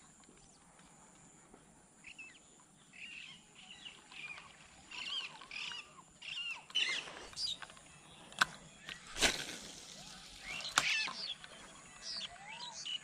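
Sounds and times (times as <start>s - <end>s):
bird chirping: 2.0s - 13.0s.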